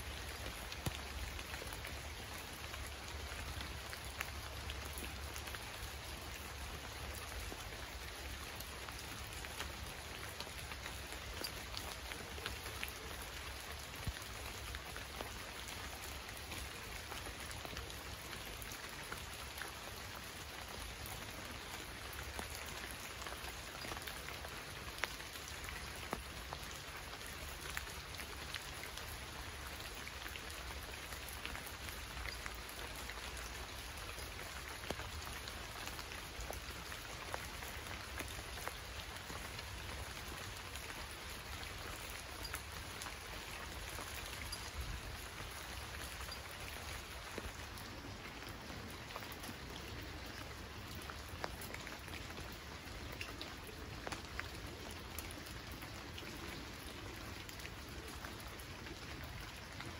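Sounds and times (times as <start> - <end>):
steady rain falling: 0.0 - 59.9
sharp raindrop clicks: 0.1 - 56.4.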